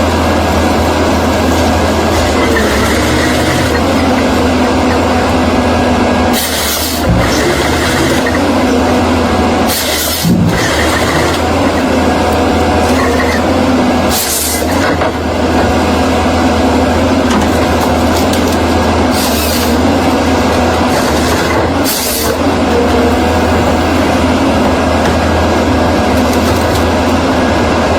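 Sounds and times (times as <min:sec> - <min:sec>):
diesel engine under load: 0:00.0 - 0:27.9.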